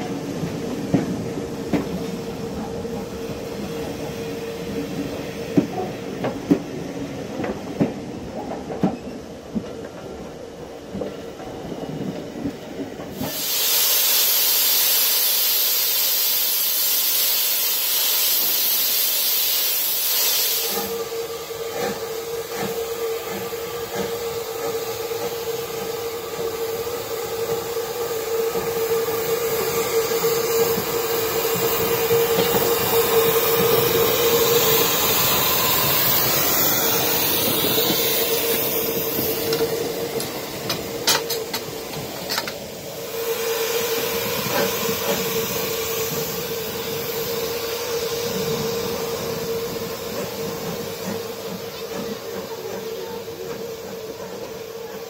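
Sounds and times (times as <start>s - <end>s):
steam locomotive hissing steam: 0.0s - 9.3s, 10.0s - 55.0s.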